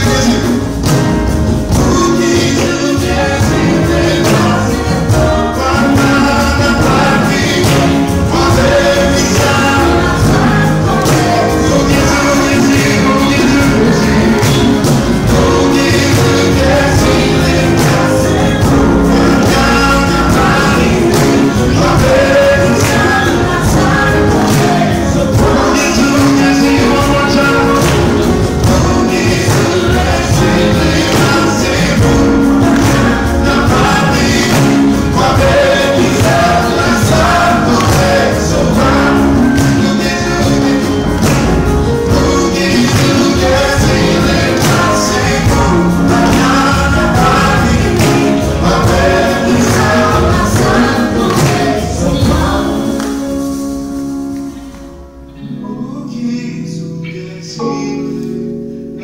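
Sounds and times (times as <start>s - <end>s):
man singing lead: 0.0s - 53.2s, 55.5s - 59.0s
percussion beat: 0.0s - 54.5s
electric guitar: 0.0s - 59.0s
grand piano: 0.0s - 59.0s.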